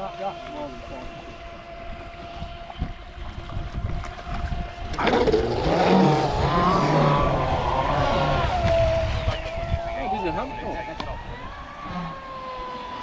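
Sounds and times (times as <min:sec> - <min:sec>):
toy boat motor whining: 0:00.0 - 0:13.0
wind rumbling on microphone: 0:00.5 - 0:13.0.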